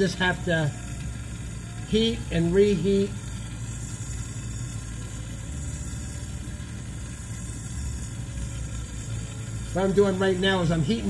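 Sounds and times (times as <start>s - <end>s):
torch flame rushing: 0.0s - 11.0s.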